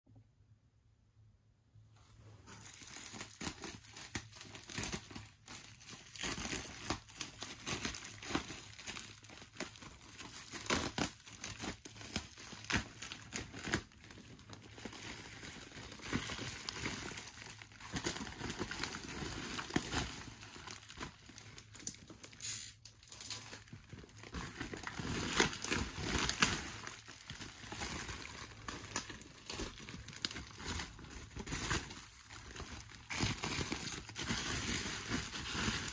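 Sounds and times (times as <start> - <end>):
bubble wrap crinkling and crackling: 2.1 - 35.9.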